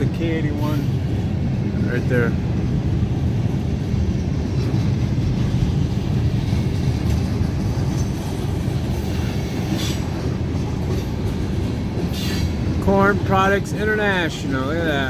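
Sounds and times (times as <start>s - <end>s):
freight train wheels rumbling on track: 0.0s - 15.0s.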